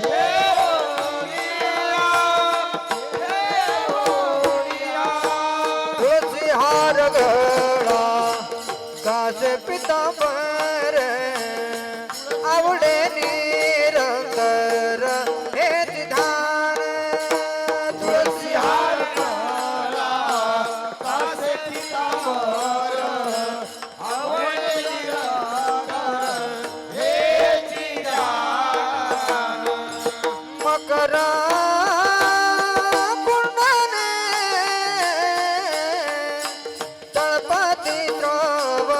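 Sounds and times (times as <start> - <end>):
man singing devotional song: 0.0 - 38.9
tabla: 0.0 - 38.9.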